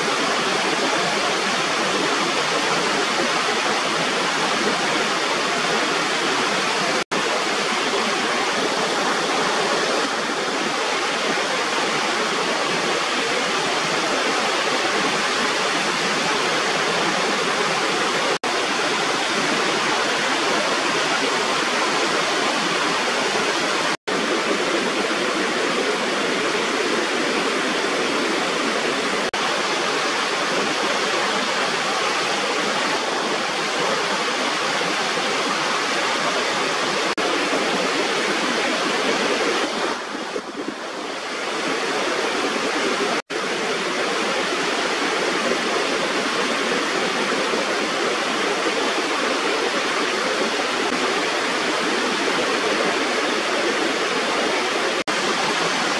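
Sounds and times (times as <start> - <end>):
water rushing over a weir: 0.0 - 55.9.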